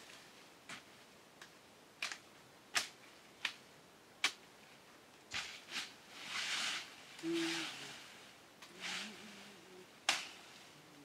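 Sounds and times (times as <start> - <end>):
leafy branches rustling: 0.0 - 11.0.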